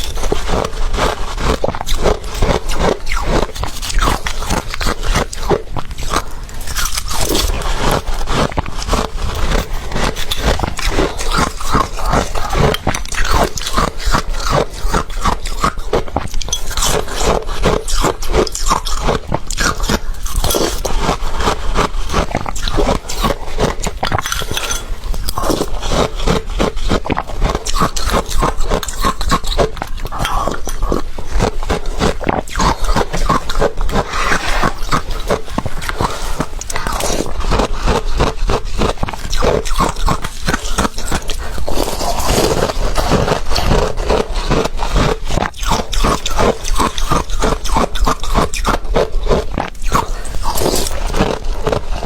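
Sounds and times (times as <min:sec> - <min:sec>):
ice crunching while chewed: 0:00.0 - 0:52.0.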